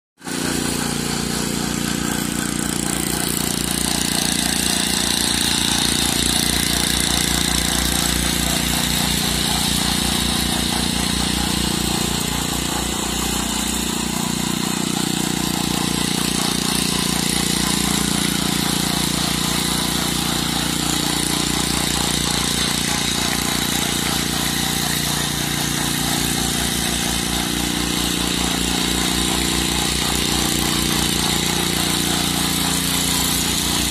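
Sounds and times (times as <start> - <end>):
small engine running: 0.2 - 33.9.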